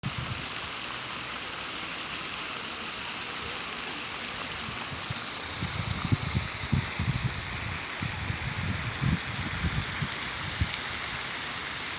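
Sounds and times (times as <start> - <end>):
flowing water hissing: 0.0 - 11.9.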